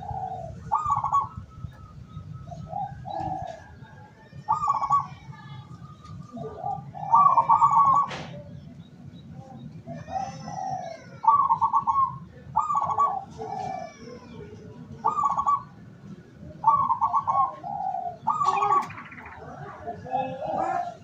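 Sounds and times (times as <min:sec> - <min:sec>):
doves cooing: 0:00.0 - 0:21.0
small birds chirping: 0:00.0 - 0:21.0.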